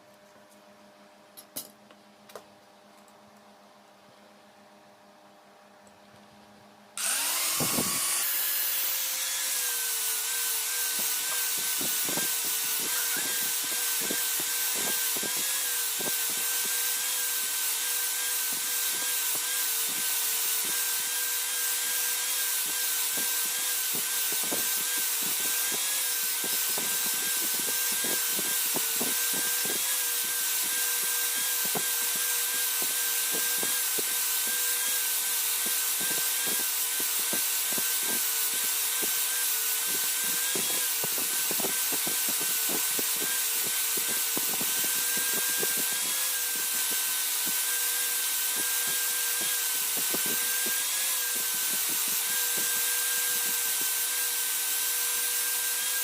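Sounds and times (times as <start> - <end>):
grinding hiss: 7.0 - 56.0
power tool motor whine: 7.0 - 56.0.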